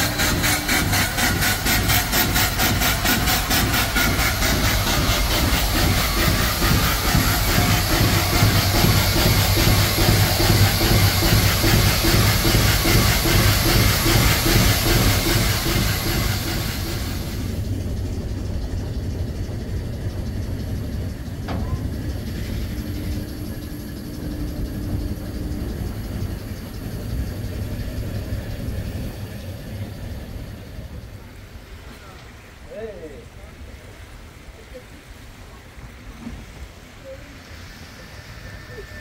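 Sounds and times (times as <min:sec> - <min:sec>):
steam engine rhythmic beat and hiss: 0:00.0 - 0:39.0.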